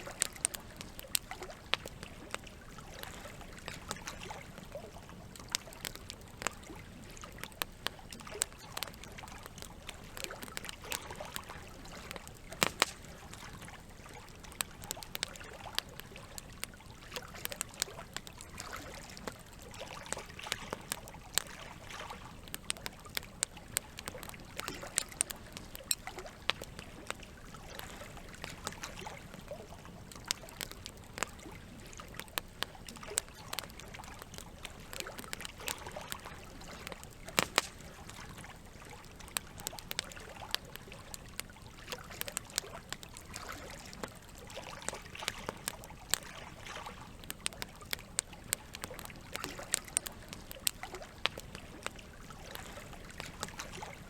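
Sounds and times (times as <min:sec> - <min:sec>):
campfire crackling and popping: 0:00.0 - 0:54.0
trickle of flowing water: 0:00.0 - 0:54.0.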